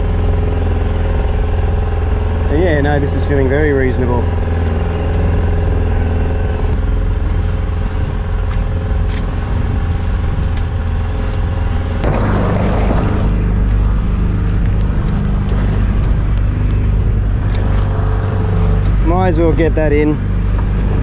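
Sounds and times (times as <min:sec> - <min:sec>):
outboard motor running: 0:00.0 - 0:21.0
wave splashing against hull: 0:00.0 - 0:21.0.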